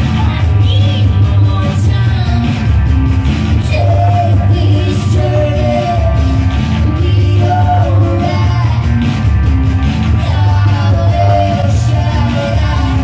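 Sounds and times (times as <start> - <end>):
electric guitar: 0.0 - 13.0
strong steady bass: 0.0 - 13.0.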